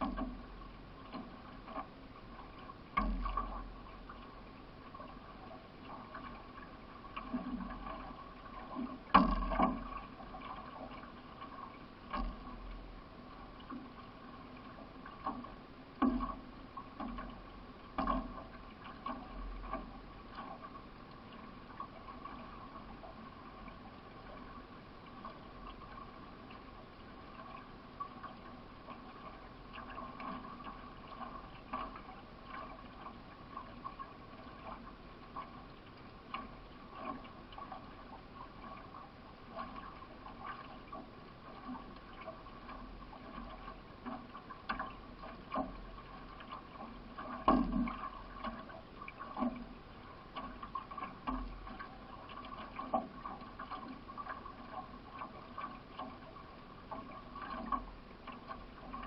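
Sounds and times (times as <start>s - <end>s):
faint steady hum: 0.0s - 59.0s
paddle strokes: 0.0s - 59.0s
water splashing along canoe: 0.0s - 59.0s.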